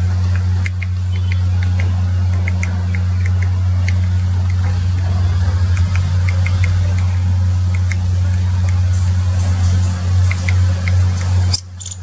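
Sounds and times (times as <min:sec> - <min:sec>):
loud steady low hum: 0:00.0 - 0:12.0
woodpecker pecking bark: 0:00.0 - 0:12.0.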